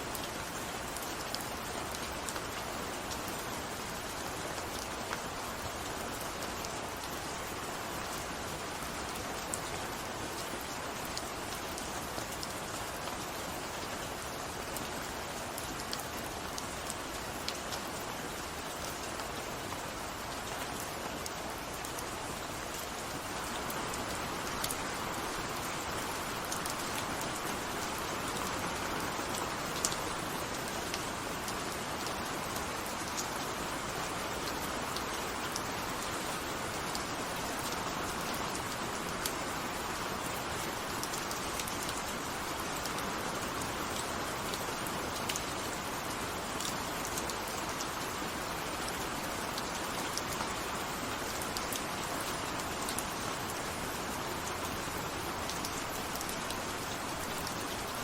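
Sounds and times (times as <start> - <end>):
raindrops ticking on a surface: 0.0 - 58.0
steady rain hiss: 0.0 - 58.0.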